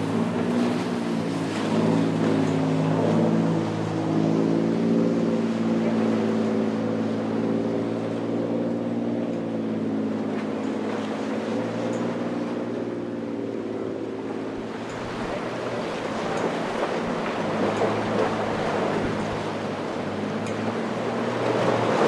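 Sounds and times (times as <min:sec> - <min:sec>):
motorboat engine droning: 0:00.0 - 0:22.0
waves splashing and surf: 0:00.0 - 0:22.0.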